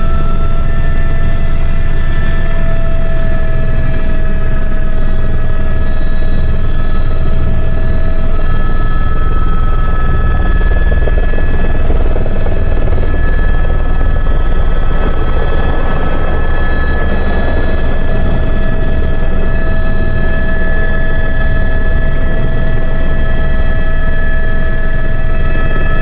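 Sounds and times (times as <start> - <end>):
helicopter rotor noise: 0.0 - 26.0
turbine whine: 0.0 - 26.0.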